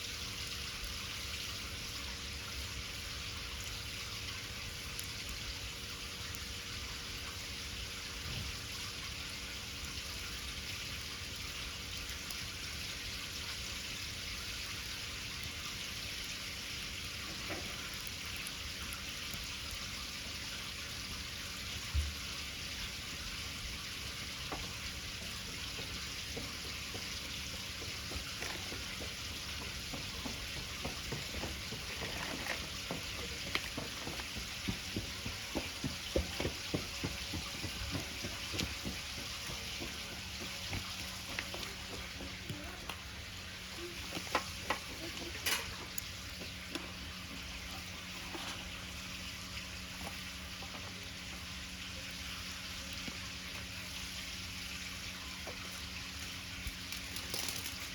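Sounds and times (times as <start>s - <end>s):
bonfire hissing and crackling: 0.0s - 57.9s.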